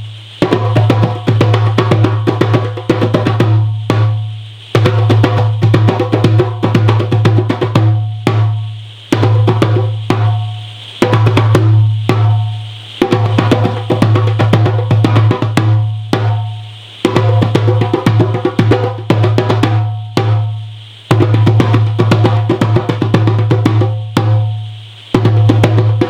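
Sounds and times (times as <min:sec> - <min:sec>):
drum strike flurries: 0:00.4 - 0:26.0.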